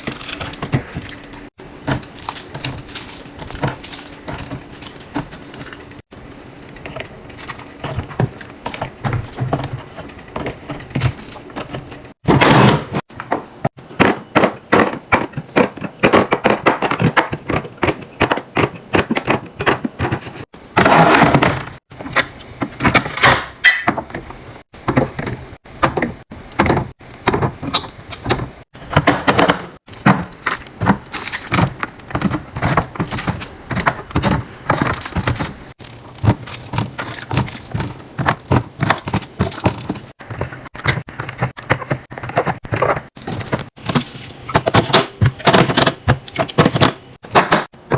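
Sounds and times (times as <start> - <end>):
containers clacking in refrigerator: 6.6 - 47.9.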